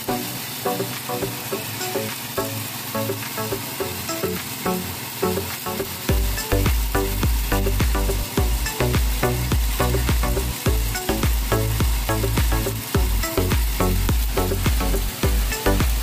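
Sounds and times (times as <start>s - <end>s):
background music with steady beat: 0.0s - 16.0s
manure grinder engine running: 0.0s - 16.0s.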